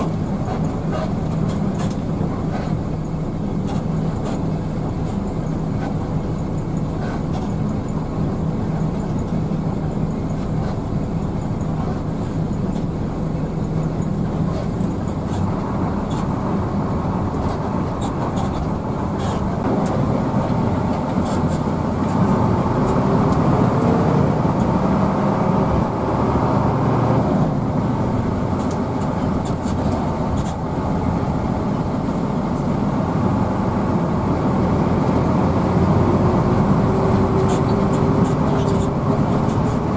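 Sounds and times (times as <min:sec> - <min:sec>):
bus engine: 0:00.0 - 0:39.9
road noise inside bus: 0:00.0 - 0:39.9.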